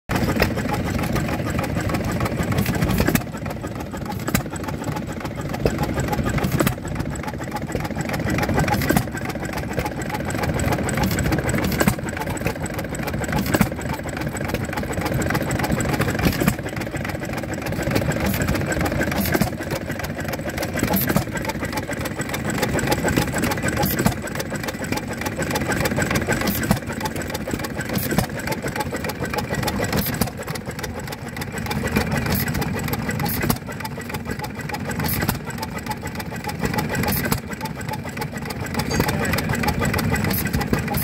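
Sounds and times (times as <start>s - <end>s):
stationary engine clattering: 0.1s - 41.0s.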